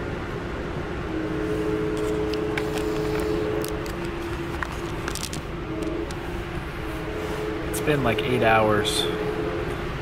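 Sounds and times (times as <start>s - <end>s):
train running rumble: 0.0s - 10.0s
two-note hum: 0.0s - 10.0s.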